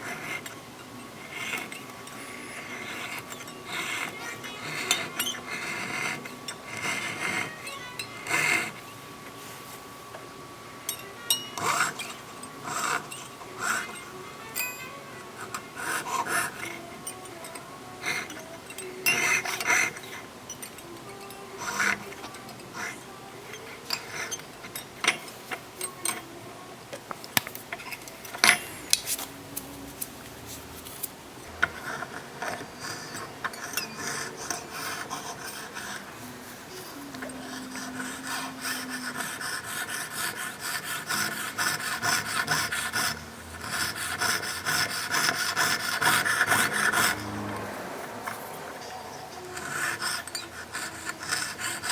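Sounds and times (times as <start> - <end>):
jeweller's saw cutting metal: 0.0 - 9.8, 10.6 - 26.4, 31.5 - 51.9.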